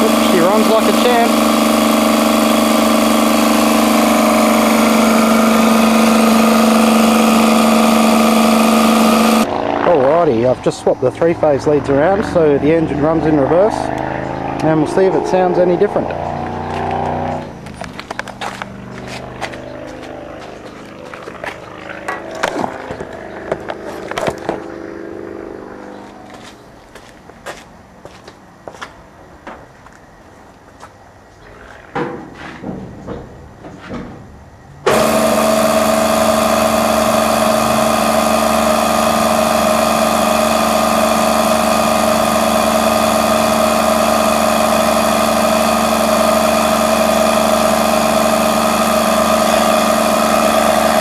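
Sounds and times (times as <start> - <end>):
refrigeration compressor humming: 0.0 - 27.0, 31.1 - 51.0.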